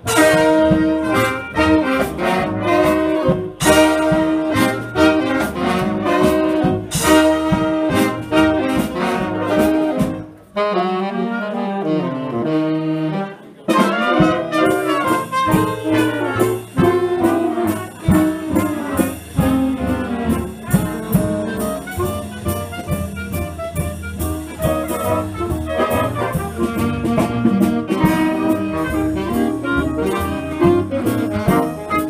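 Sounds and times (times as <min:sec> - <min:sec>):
horns playing a falling line: 0:00.0 - 0:32.0
swing big band playing: 0:00.0 - 0:32.0.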